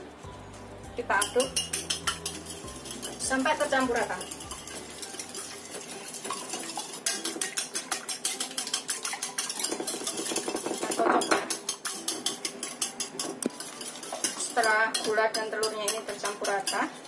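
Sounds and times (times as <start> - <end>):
whisk clicking against bowl: 1.2 - 17.0.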